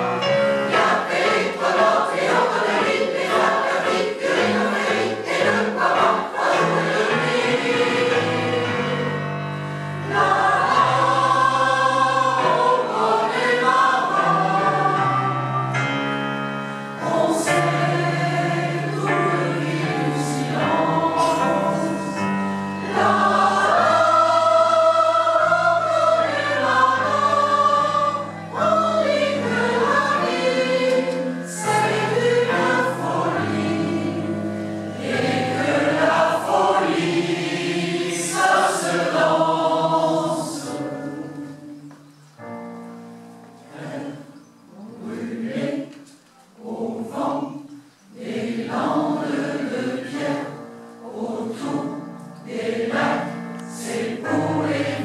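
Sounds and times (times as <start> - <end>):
mixed choir singing: 0.0 - 42.2, 43.5 - 55.0.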